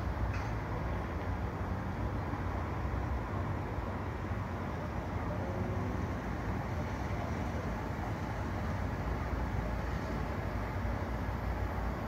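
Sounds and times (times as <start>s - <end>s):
distant road traffic rumble: 0.0s - 12.0s.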